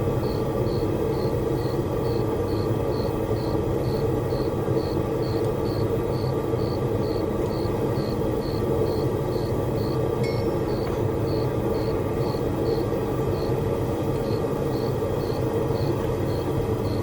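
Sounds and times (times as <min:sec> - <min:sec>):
forge running noise: 0:00.0 - 0:17.0.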